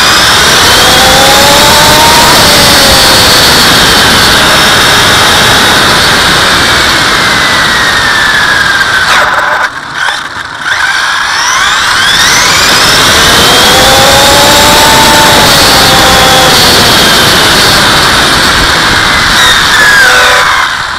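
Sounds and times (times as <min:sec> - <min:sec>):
wind noise: 0:00.0 - 0:08.9, 0:12.2 - 0:20.9
rc car motor whining: 0:00.0 - 0:20.9.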